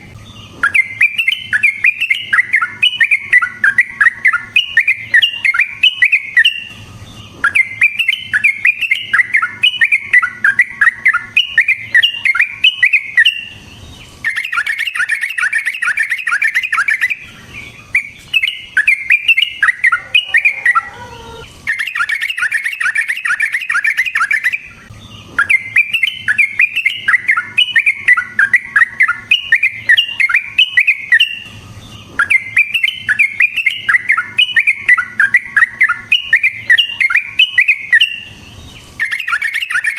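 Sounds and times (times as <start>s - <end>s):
bird singing rolling chatter: 0.0s - 39.9s.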